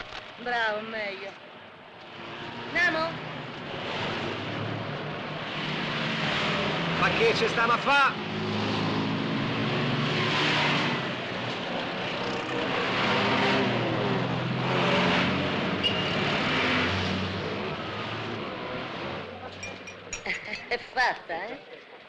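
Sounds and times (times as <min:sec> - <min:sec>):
cars driving past: 0:00.7 - 0:22.0
motor van driving past: 0:01.8 - 0:20.6.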